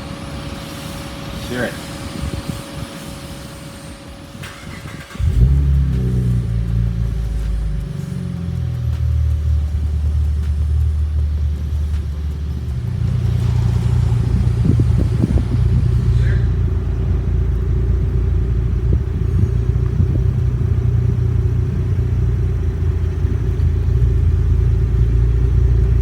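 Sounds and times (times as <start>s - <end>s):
car engine starting and idling: 0.0s - 26.0s.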